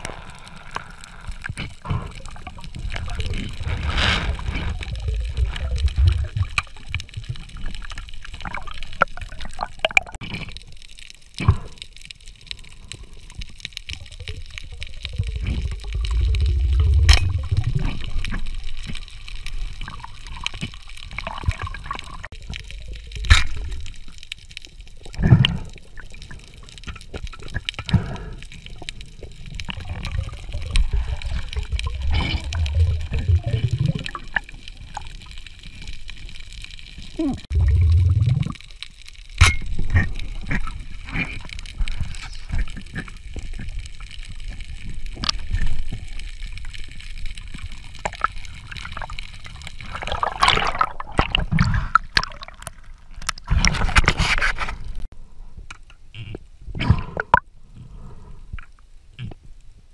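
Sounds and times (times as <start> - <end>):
bubbling: 0.0 - 55.1
muffled underwater water movement: 0.0 - 59.9.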